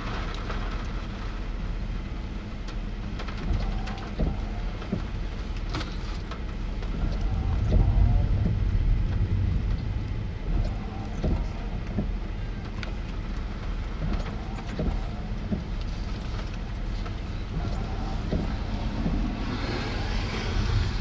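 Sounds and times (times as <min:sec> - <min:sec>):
low rumble of storm wind: 0:00.0 - 0:21.0.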